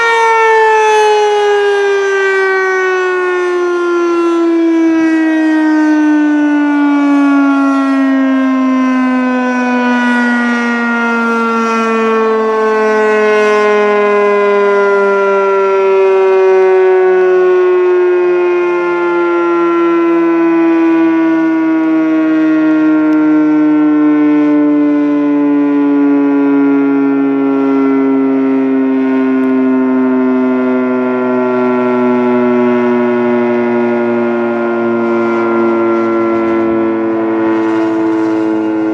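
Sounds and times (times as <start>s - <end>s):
civil defense siren: 0.0s - 38.9s.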